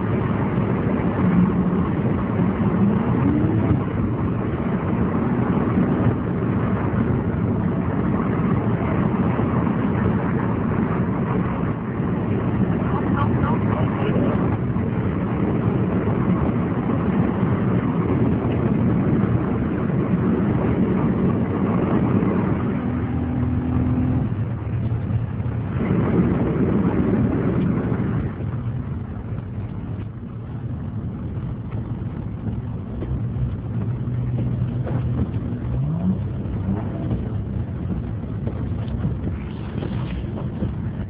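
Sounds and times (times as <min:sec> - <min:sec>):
car engine running: 0:00.0 - 0:41.0
road noise: 0:00.0 - 0:41.0.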